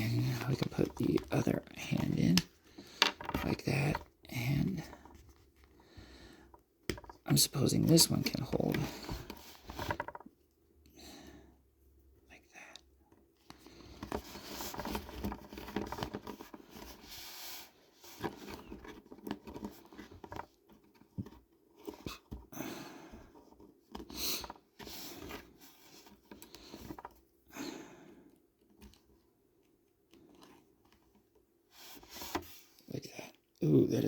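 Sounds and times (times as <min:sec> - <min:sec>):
plastic figure rubbing and rustling: 0:00.0 - 0:05.8, 0:06.5 - 0:10.5, 0:13.2 - 0:22.5, 0:23.3 - 0:27.3, 0:28.6 - 0:34.0.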